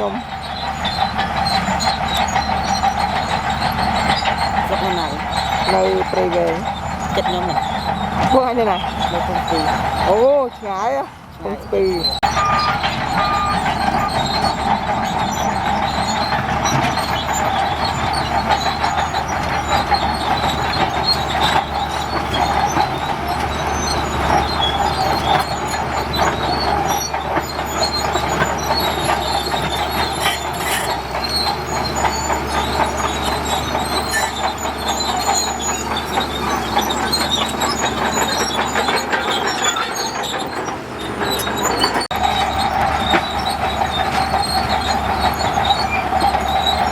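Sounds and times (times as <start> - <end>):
heavy earthmoving machinery running: 0.0 - 46.9.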